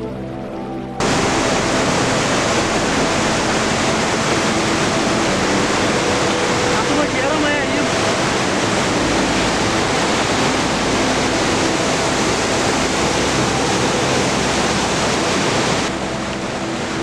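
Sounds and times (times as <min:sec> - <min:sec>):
waterfall pouring: 0:01.0 - 0:17.0.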